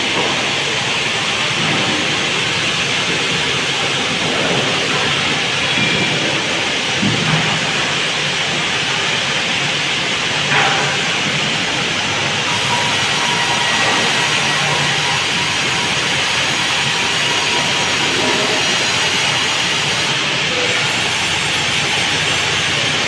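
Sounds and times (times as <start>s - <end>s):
sawmill machinery running: 0.0s - 23.0s.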